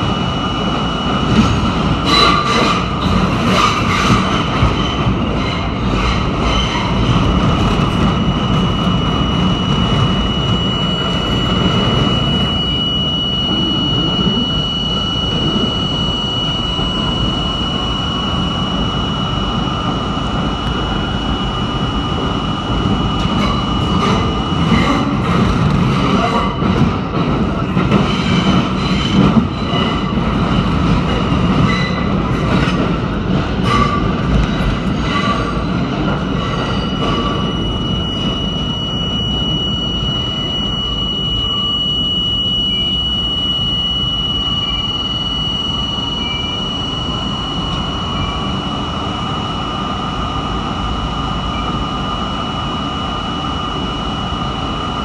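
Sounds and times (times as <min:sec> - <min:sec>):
high motor whine: 0:00.0 - 0:55.0
subway train rumbling in tunnel: 0:00.0 - 0:55.0.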